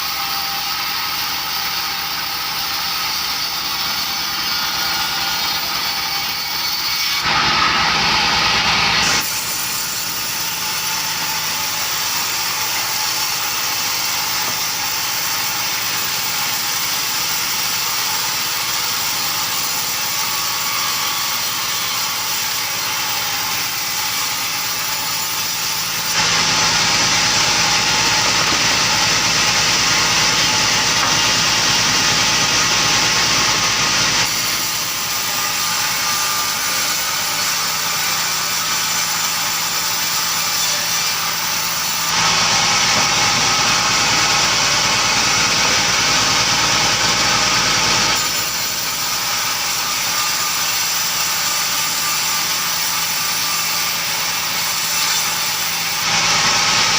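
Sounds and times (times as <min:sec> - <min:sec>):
engine-driven wood saw: 0:00.0 - 0:56.9.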